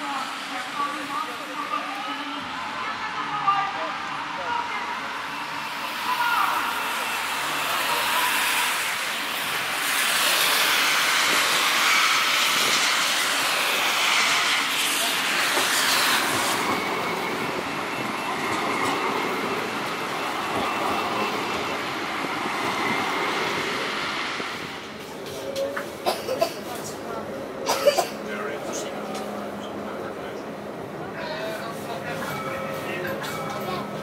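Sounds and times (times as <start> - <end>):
tram wheels rolling on rails: 0.0 - 34.0.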